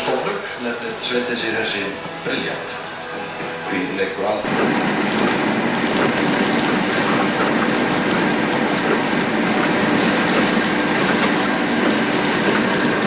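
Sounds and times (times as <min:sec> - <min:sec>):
vehicle running: 0:01.4 - 0:13.0.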